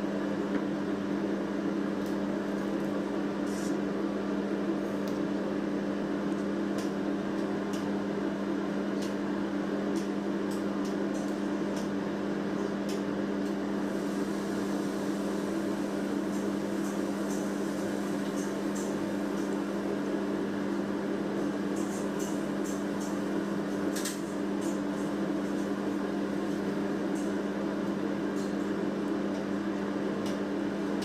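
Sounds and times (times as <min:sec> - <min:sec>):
electric appliance humming: 0:00.0 - 0:31.0.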